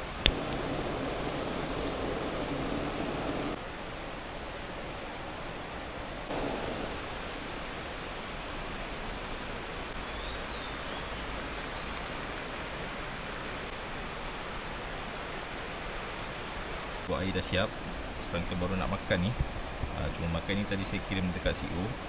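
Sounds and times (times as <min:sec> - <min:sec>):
river rushing over stones: 0:00.0 - 0:22.0.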